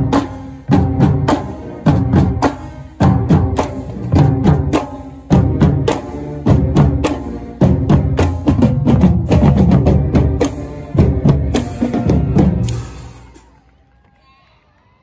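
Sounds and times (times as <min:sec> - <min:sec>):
marching drumline: 0:00.0 - 0:13.4.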